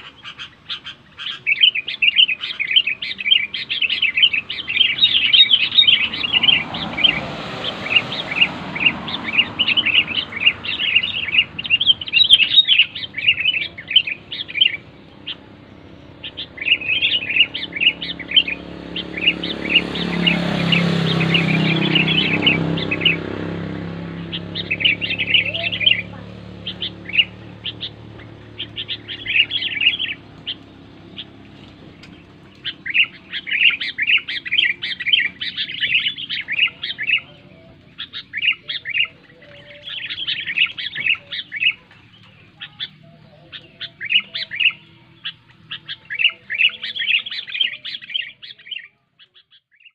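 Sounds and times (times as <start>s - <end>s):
bird chirping rapidly: 0.0s - 49.9s.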